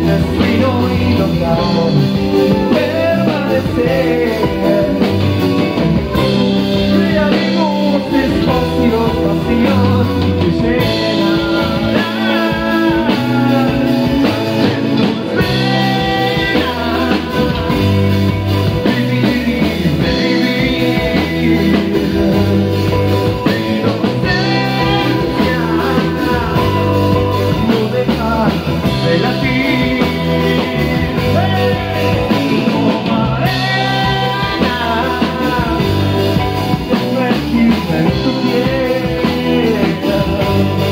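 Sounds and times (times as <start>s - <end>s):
man singing: 0.0s - 40.9s
rock band playing: 0.0s - 40.9s.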